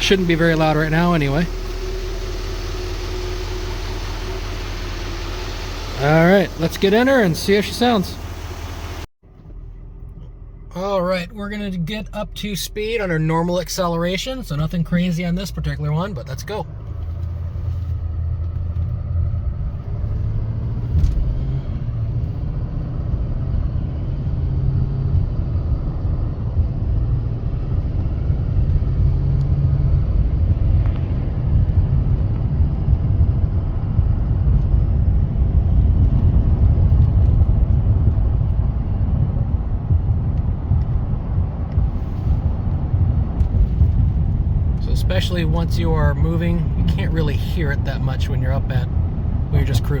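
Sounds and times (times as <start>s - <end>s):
diesel engine rumble: 0.0s - 50.0s
road noise: 0.0s - 50.0s.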